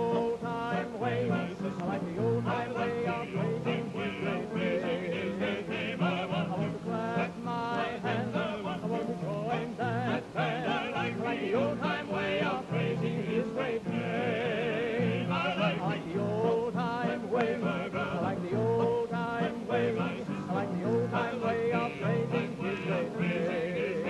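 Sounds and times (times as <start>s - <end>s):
gospel group singing in harmony: 0.0s - 24.0s.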